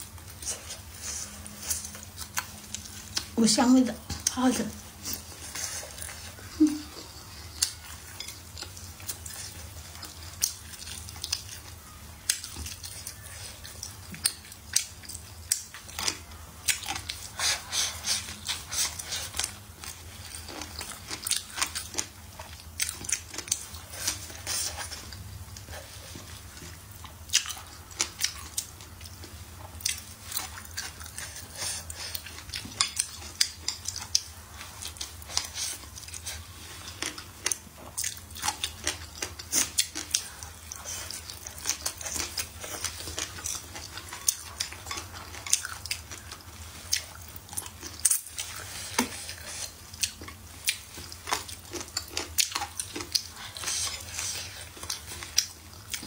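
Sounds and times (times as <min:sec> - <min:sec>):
chewing with wet mouth clicks: 0:00.0 - 0:03.4, 0:04.0 - 0:56.0
low steady hum: 0:00.0 - 0:56.0.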